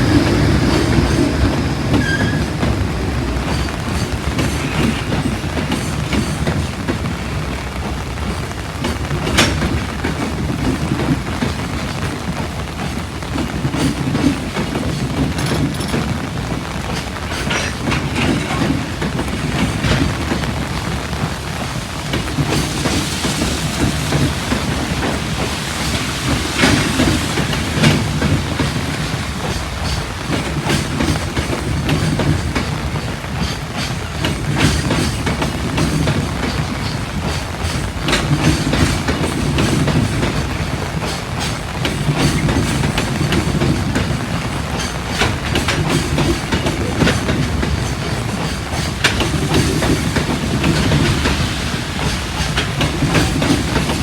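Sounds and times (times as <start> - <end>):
freight train wheels rumbling: 0.0 - 54.0
heavy rain hissing: 0.0 - 54.0
wheels clicking over rail joints: 0.0 - 54.0.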